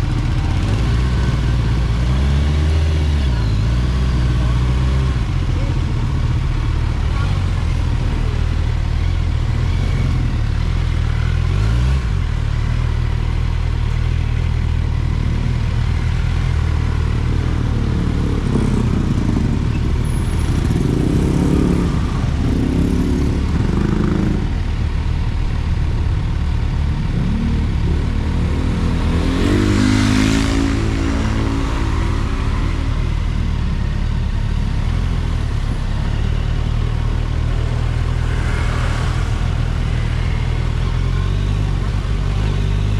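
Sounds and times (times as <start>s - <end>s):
low road rumble: 0.0s - 42.9s
motorcycle engine accelerating: 0.0s - 42.9s.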